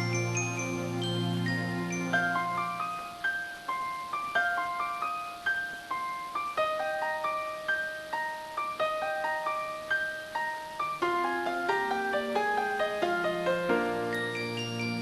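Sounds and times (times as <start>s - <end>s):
slow keyboard melody: 0.0s - 15.0s.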